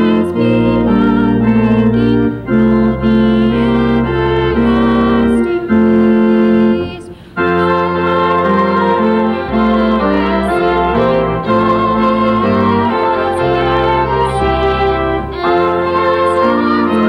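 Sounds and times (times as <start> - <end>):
church organ playing chords: 0.0 - 17.0.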